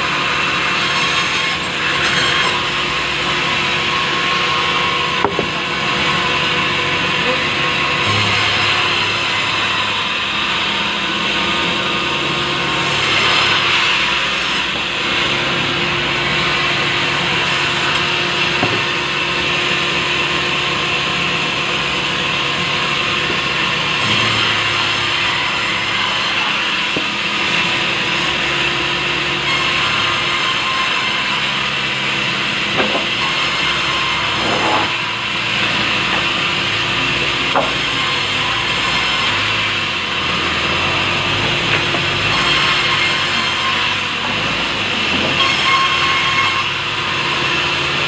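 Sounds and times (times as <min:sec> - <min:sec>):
band saw cutting through log: 0:00.0 - 0:48.0.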